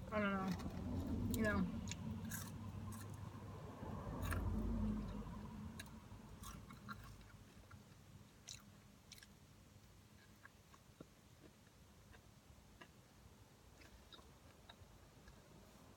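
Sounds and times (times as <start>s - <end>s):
person chewing crunchy food: 0.0s - 15.6s.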